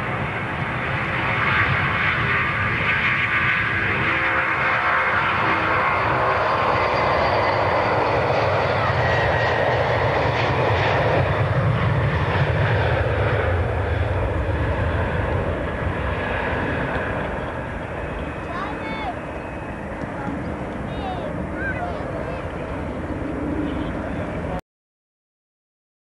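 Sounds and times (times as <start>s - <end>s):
jet airliner passing: 0.0s - 24.6s.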